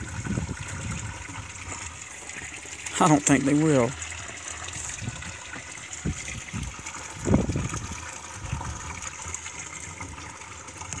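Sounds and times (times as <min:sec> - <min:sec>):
water rushing through wooden trunk: 0:00.0 - 0:11.0.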